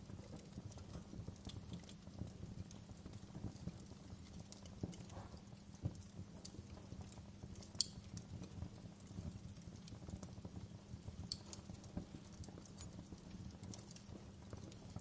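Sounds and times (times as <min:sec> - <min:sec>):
fire snapping and popping: 0:00.0 - 0:15.0
low fire rumble: 0:00.0 - 0:15.0.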